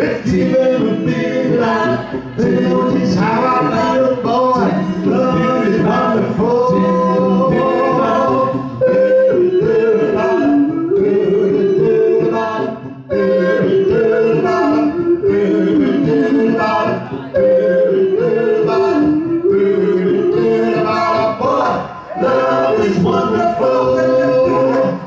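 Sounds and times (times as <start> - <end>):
vocal group singing in harmony: 0.0 - 25.0.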